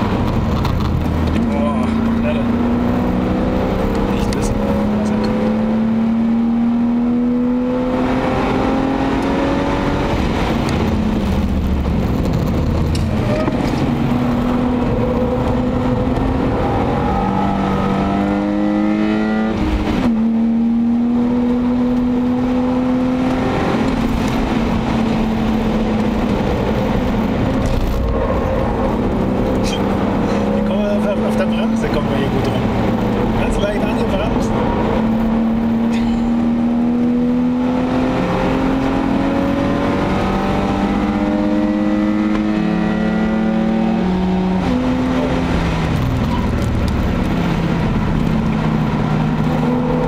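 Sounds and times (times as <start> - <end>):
tyre and wind noise: 0.0 - 30.6, 34.2 - 50.0
car engine revving: 0.0 - 50.0.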